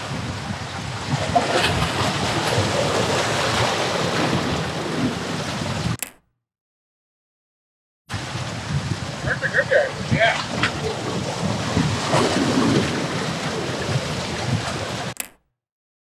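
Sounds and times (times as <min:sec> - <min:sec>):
surf washing on rocks: 0:00.0 - 0:06.0, 0:08.1 - 0:15.2
wind buffeting microphone: 0:00.0 - 0:06.0, 0:08.1 - 0:15.2.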